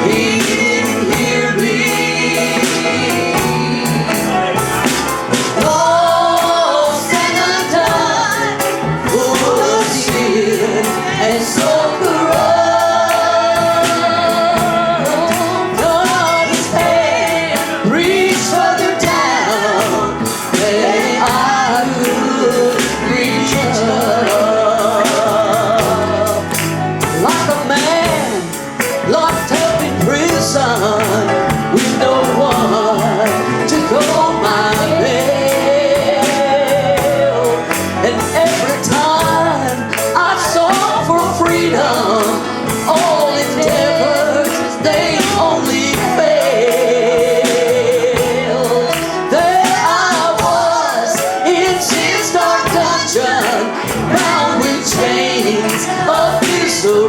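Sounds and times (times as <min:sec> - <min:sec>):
gospel singing with instruments: 0:00.0 - 0:57.0.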